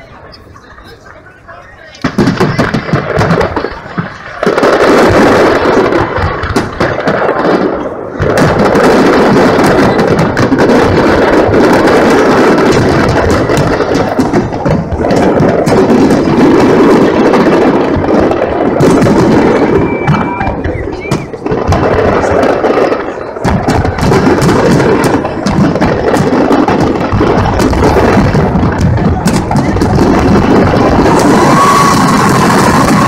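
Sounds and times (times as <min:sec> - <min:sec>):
fireworks booming and crackling: 0:00.0 - 0:33.0.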